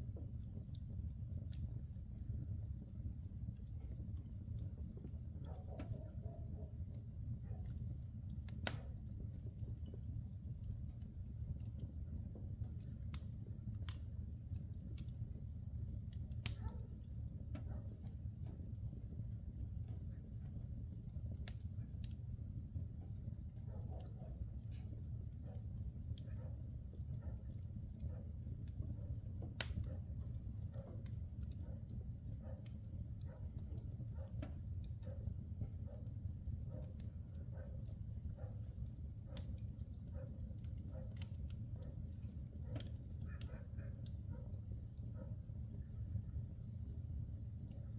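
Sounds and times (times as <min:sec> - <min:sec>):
fire crackling and popping: 0:00.0 - 0:47.9
fire flames burning: 0:00.0 - 0:47.9.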